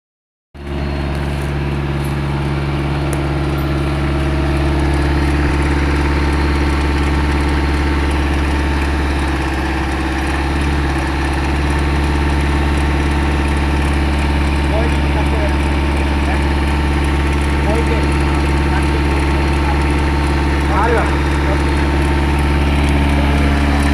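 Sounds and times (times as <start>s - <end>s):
engine idling: 0.6s - 23.9s.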